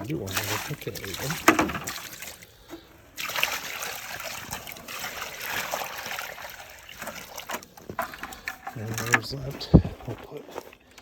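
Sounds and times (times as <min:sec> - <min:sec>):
liquid pouring from a bucket: 0:00.0 - 0:11.0.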